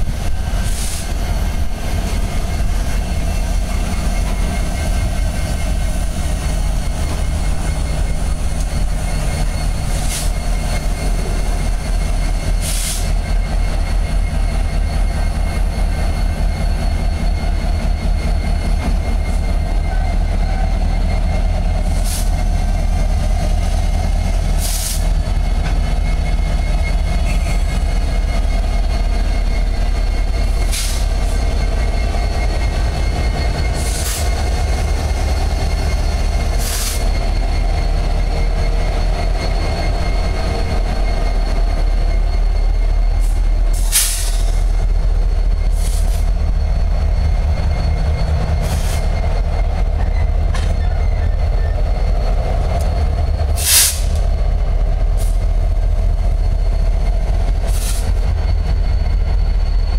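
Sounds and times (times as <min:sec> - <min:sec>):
diesel locomotives rumbling past: 0:00.0 - 0:59.9.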